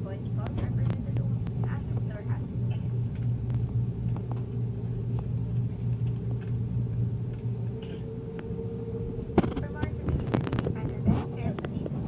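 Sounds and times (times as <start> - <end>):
engine whine: 0.0 - 12.0
jet engines idling hum: 0.0 - 12.0.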